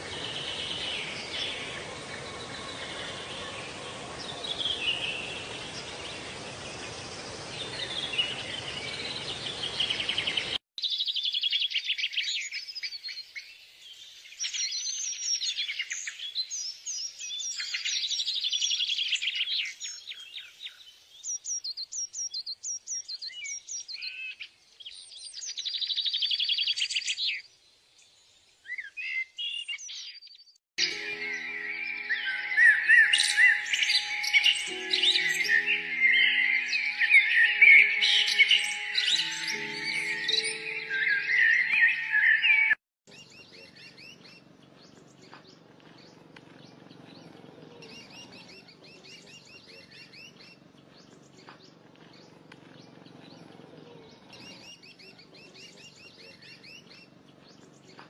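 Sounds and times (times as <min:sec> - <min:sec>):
birdsong trills: 0:00.0 - 0:27.4, 0:28.6 - 0:58.0
small birds chirping: 0:00.0 - 0:58.0.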